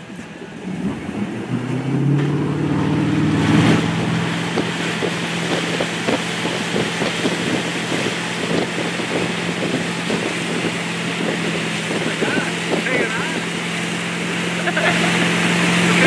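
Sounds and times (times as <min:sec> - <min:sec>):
boat engine accelerating: 0:00.0 - 0:16.0
rushing water: 0:00.0 - 0:16.0
wind on the microphone: 0:00.9 - 0:14.9.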